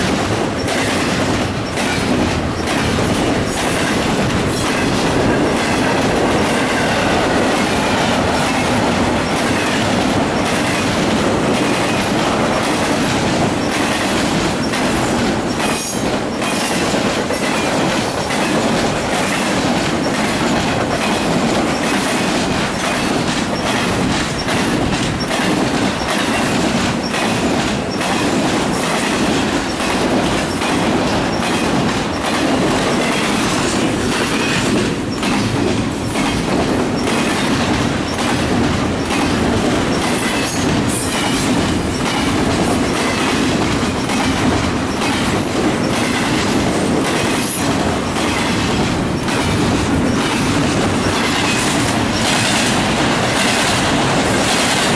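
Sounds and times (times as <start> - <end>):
steel wheels rumbling on rail: 0.0 - 54.9.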